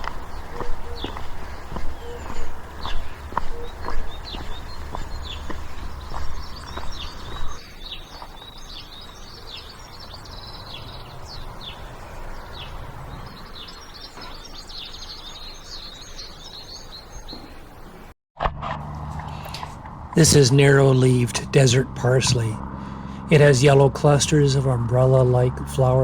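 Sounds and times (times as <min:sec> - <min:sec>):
small songbirds chirping: 0:00.0 - 0:18.1, 0:19.2 - 0:26.0.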